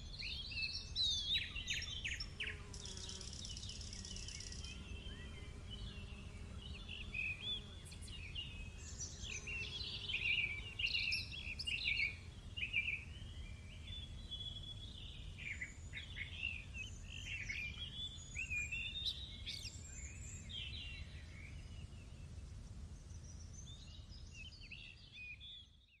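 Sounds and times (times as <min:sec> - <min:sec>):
small birds singing and chirping: 0:00.0 - 0:26.0.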